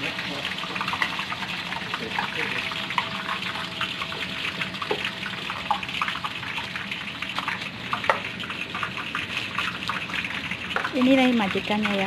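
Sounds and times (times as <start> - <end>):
deep-frying sizzle and pops: 0.0 - 12.0.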